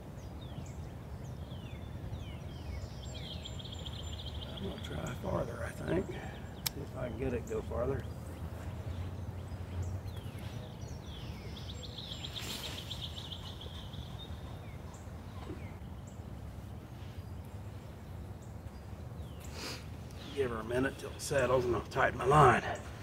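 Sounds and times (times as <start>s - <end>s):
birds chirping: 0.0s - 23.0s
low wind rumble: 0.0s - 23.0s.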